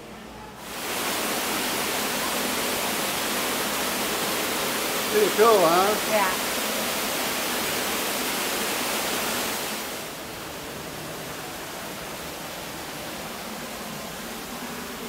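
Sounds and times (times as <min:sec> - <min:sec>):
waterfall rushing: 0:00.6 - 0:15.0.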